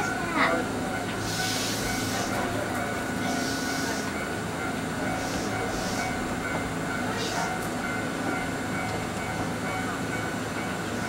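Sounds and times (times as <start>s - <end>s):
electric train equipment humming: 0.0s - 11.0s.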